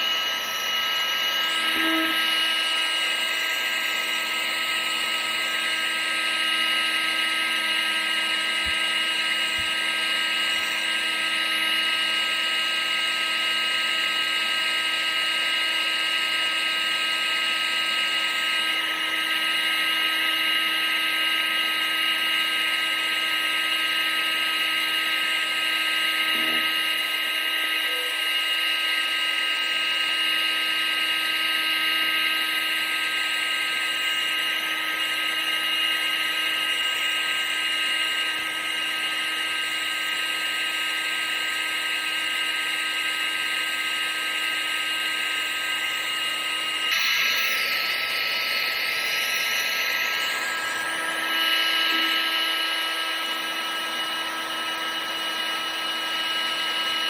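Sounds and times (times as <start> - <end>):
vacuum cleaner motor running: 0.0 - 57.0.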